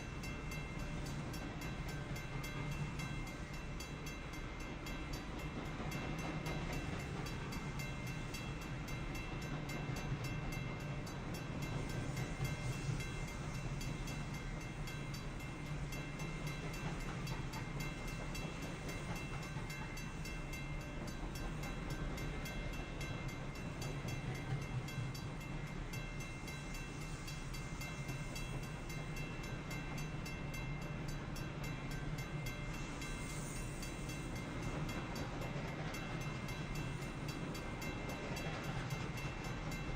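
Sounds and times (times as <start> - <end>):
crossing warning bell ringing: 0.0 - 39.9
freight train rumbling: 0.0 - 39.9.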